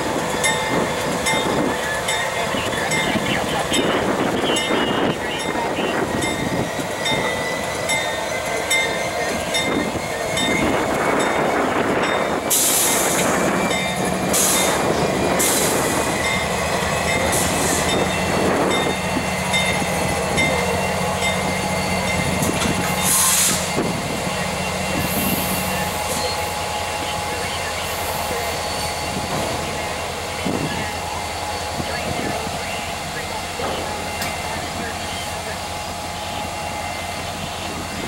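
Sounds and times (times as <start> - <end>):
diesel locomotives rumbling past: 0.0 - 38.0.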